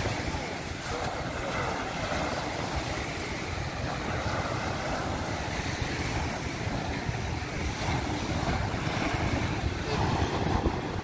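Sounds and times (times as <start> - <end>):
small waves washing on sand: 0.0 - 11.0
wind rumbling on microphone: 0.0 - 11.0.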